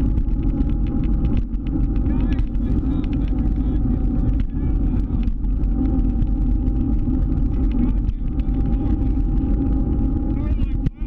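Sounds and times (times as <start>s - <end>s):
scooter engine rumbling with whine: 0.0s - 11.0s.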